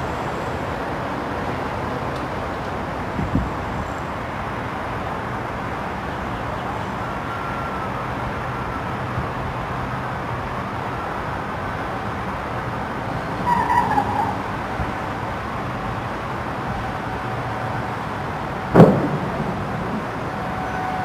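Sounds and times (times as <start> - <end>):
distant road traffic hum: 0.0 - 21.0.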